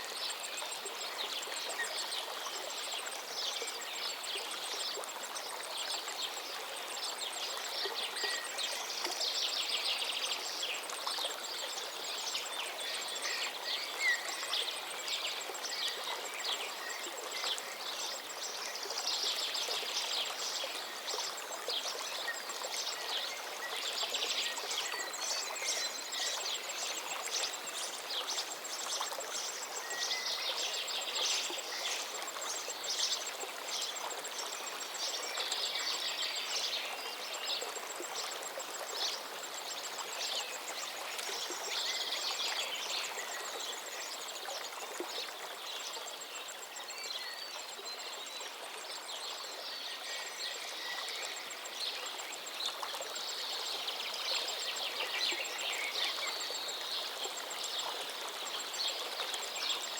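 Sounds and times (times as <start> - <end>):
river running: 0.0 - 59.9.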